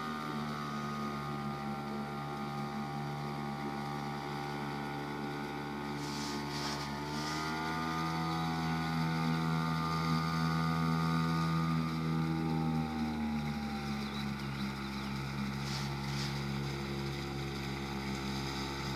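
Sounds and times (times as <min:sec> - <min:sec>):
outboard motor droning: 0:00.0 - 0:18.9.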